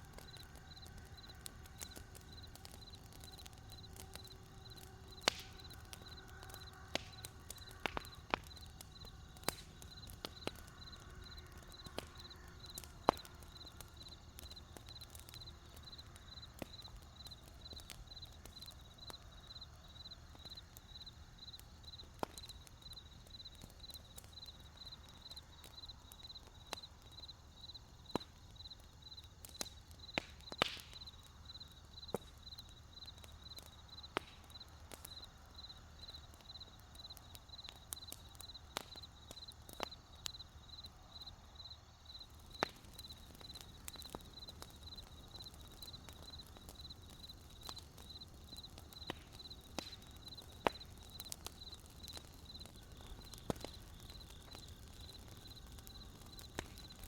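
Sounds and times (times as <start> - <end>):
campfire crackling and popping: 0.0 - 57.0
crickets chirping: 0.0 - 57.0
low rumble of fire: 0.0 - 57.0.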